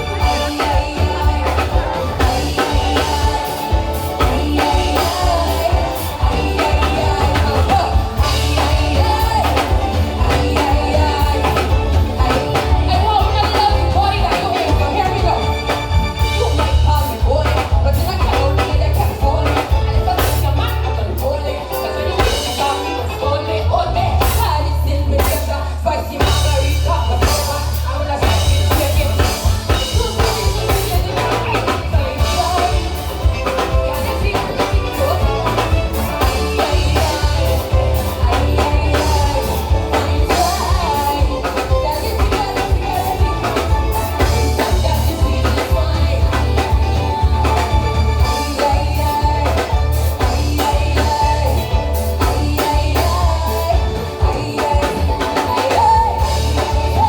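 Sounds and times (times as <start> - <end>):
pulsing bass and drum beat: 0.0 - 23.2, 23.8 - 57.0
person singing: 0.0 - 57.0.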